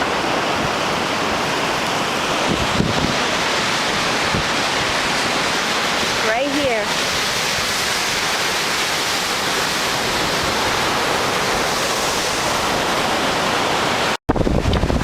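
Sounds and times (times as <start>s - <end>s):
heavy surf: 0.0s - 15.0s
hurricane wind: 0.0s - 15.0s
wind buffeting microphone: 0.0s - 15.0s.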